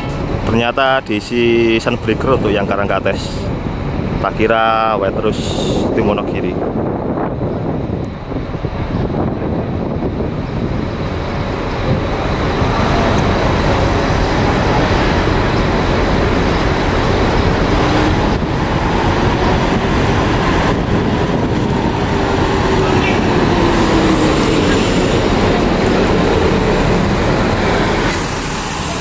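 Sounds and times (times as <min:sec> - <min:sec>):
bus diesel engine rumble: 0:00.0 - 0:29.0.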